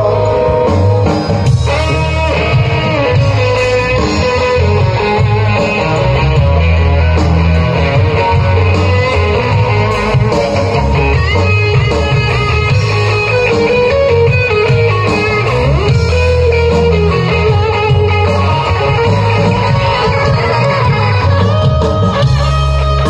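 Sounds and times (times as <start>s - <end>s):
electric guitar: 0.0s - 23.0s
heavy bass: 0.0s - 23.0s.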